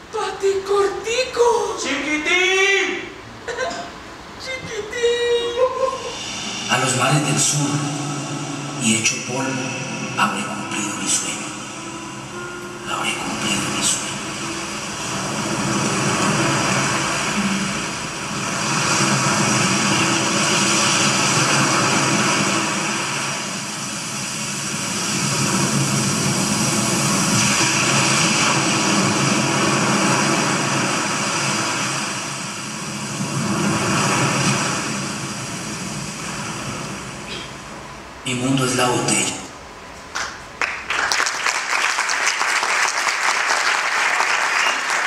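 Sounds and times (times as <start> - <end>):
sea waves washing: 3.4 - 38.4, 39.7 - 45.0.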